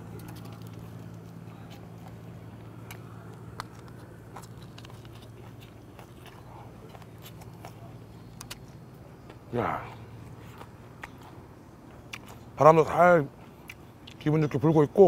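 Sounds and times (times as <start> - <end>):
steady low hum: 0.0 - 15.0
person chewing fried chicken: 0.4 - 12.6, 13.4 - 14.2.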